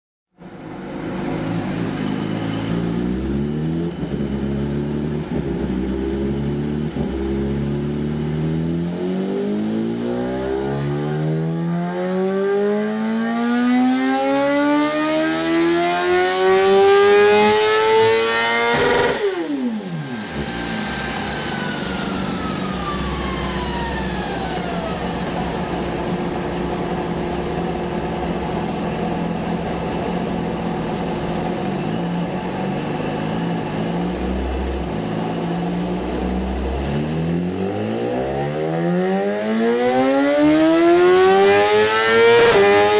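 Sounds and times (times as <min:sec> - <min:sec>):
motorcycle engine revving: 0:00.4 - 0:42.9.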